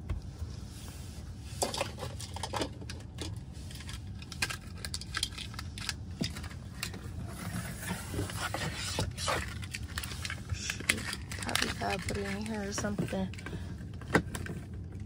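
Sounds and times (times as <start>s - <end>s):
low steady hum: 0.0s - 15.0s
objects clicking and rattling: 1.6s - 15.0s.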